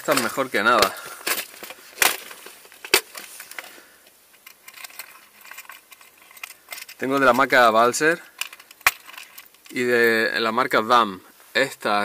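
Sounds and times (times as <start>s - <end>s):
small ticks and rustles: 0.0s - 11.7s.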